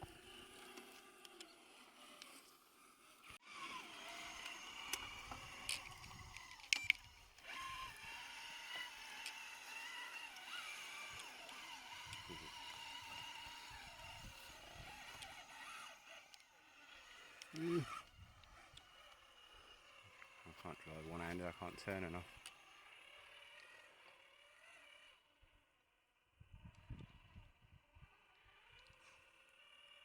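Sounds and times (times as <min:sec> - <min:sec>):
electric motor and gears whining: 0:00.0 - 0:30.0.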